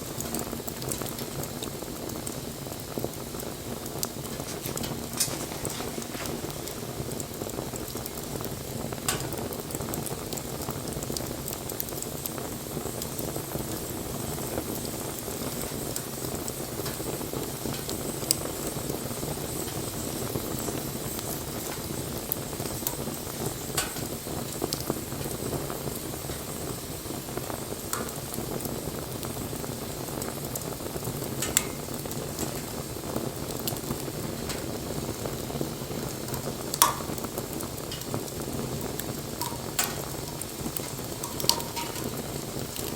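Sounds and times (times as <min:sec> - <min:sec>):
bonfire crackling: 0:00.0 - 0:42.9
fire popping: 0:00.0 - 0:42.9.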